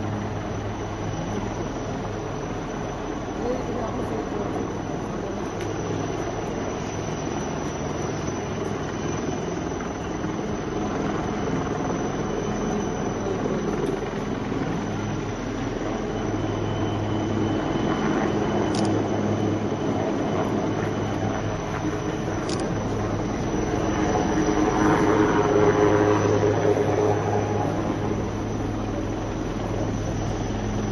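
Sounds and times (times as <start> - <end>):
helicopter rotor and engine drone: 0.0 - 30.9.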